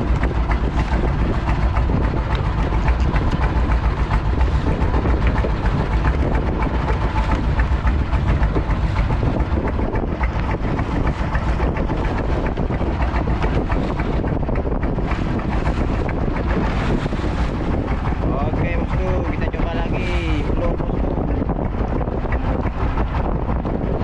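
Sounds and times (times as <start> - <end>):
low rumble: 0.0 - 24.0
sea water splashing: 0.0 - 24.0
wind buffeting microphone: 0.0 - 24.0.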